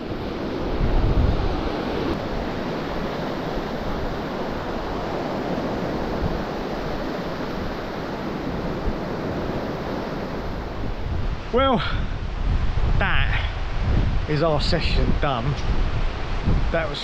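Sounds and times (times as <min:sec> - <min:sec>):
surf washing onto beach: 0:00.0 - 0:17.0
wind on microphone: 0:00.0 - 0:17.0.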